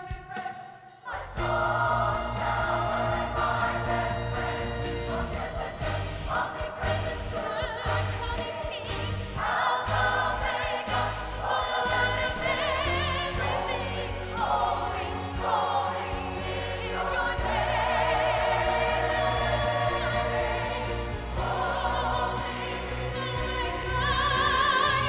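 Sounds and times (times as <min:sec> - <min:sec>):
mixed choir singing chords: 0:00.0 - 0:25.0.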